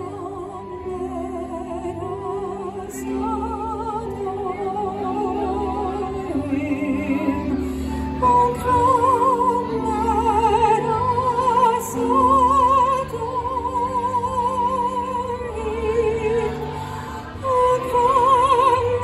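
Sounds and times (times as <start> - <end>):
low sustained accompanying chords: 0.0 - 19.0
operatic voice singing: 0.0 - 19.0.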